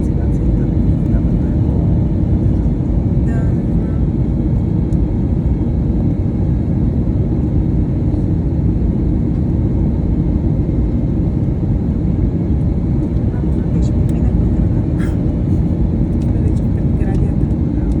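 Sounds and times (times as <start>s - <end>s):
airplane engines rumbling: 0.0s - 18.0s.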